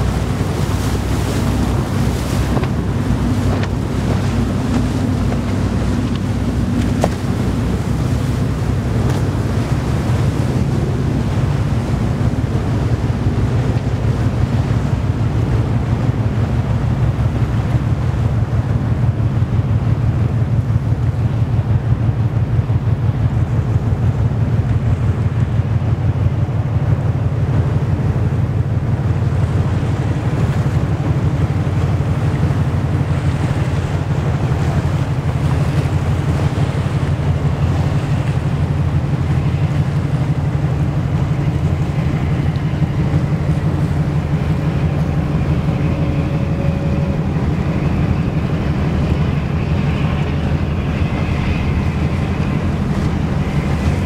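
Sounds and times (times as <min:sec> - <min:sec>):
ship engine low rumble: 0:00.0 - 0:54.0
wind noise on microphone: 0:00.0 - 0:54.0.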